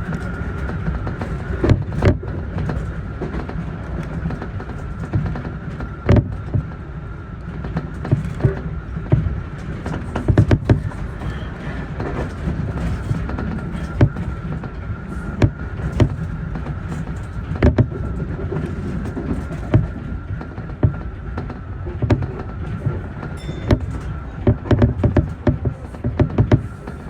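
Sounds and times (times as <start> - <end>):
train rumble on board: 0.0 - 27.0
wheels clacking over rail joints: 0.0 - 27.0.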